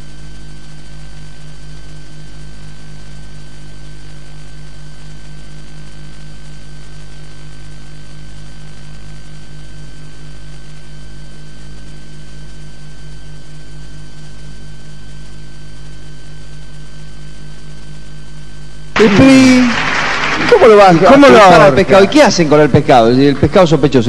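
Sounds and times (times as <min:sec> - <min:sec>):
electrical hum and buzz: 0:00.0 - 0:24.0.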